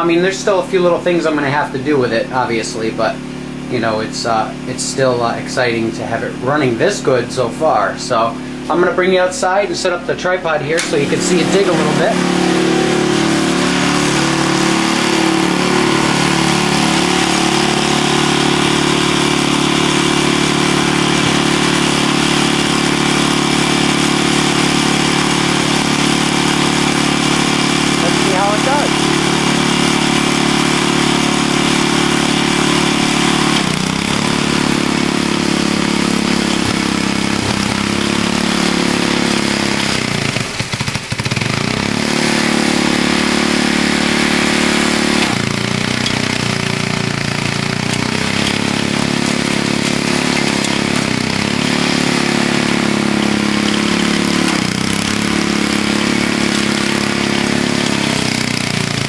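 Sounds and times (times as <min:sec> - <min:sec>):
snowblower engine running hard: 0:00.0 - 0:59.0.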